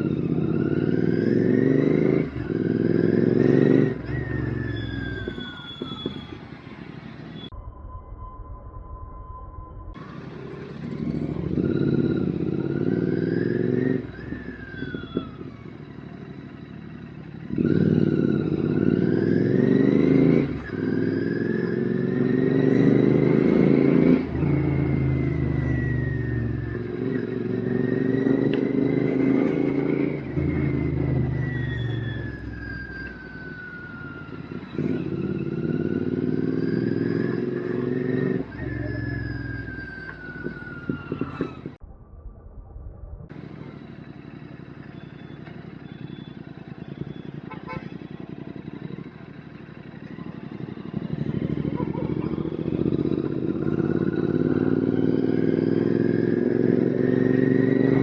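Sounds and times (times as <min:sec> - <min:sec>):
motorcycle engine revving through gears: 0:00.0 - 0:07.5, 0:10.0 - 0:41.8, 0:43.2 - 0:58.0.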